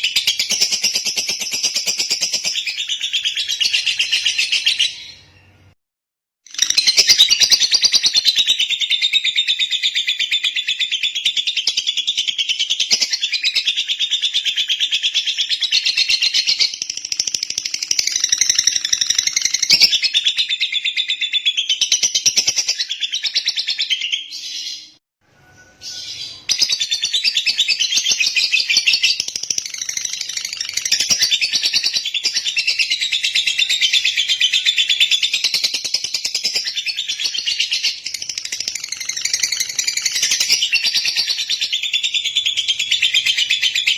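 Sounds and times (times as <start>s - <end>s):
bird chirping rapidly: 0.0s - 5.6s, 6.5s - 25.0s, 25.8s - 43.9s.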